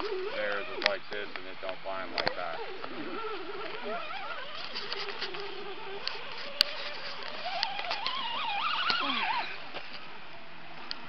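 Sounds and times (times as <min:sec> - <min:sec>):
small electric motor whining: 0:00.0 - 0:10.1.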